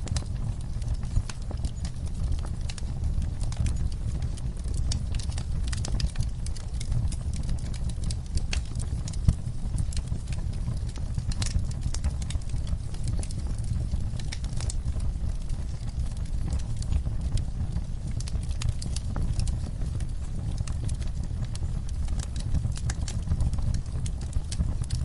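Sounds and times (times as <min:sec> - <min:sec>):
low rumble of flames: 0:00.0 - 0:25.0
wood fire crackling: 0:00.0 - 0:25.0.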